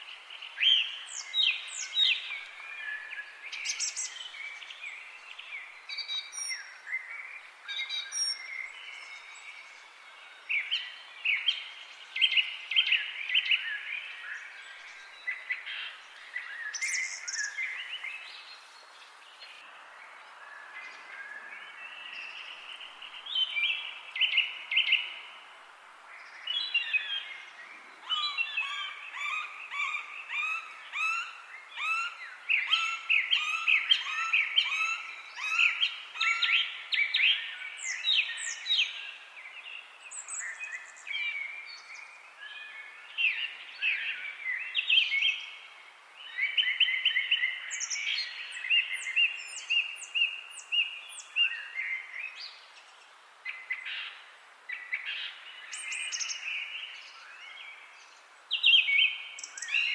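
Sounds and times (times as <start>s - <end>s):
faint background hiss: 0.0s - 59.9s.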